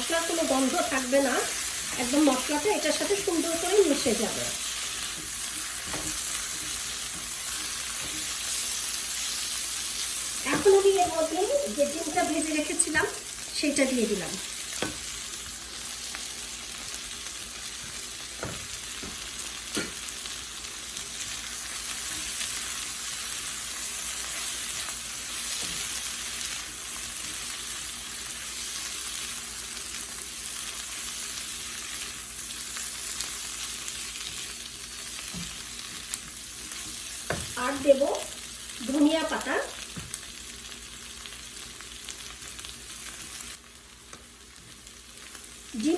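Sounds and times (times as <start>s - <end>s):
food sizzling in oil: 0.0s - 45.9s.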